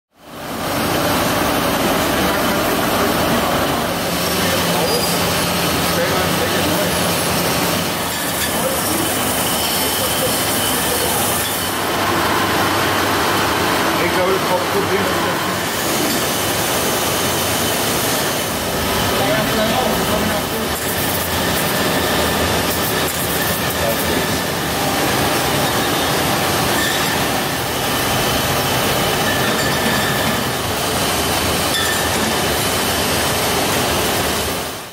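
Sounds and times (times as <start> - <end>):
bottling machinery running: 0.2 - 34.9.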